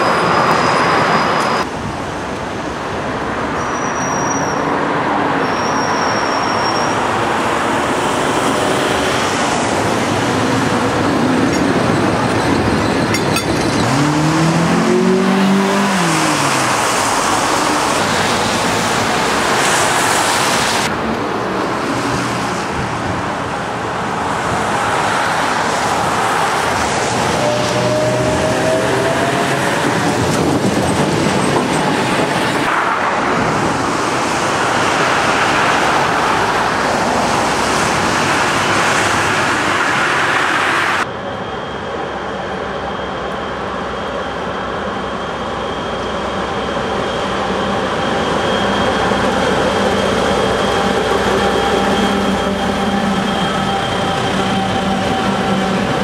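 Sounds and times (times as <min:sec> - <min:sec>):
tram wheels on rails: 0:00.0 - 0:56.0
diesel locomotive engines humming: 0:06.4 - 0:56.0.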